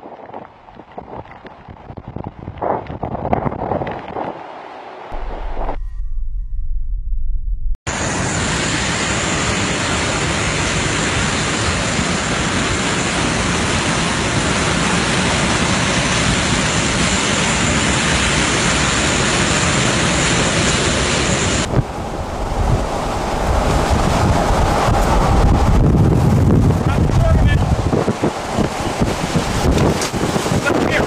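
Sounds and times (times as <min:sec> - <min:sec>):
wind on microphone: 0:00.0 - 0:06.6, 0:07.9 - 0:31.0.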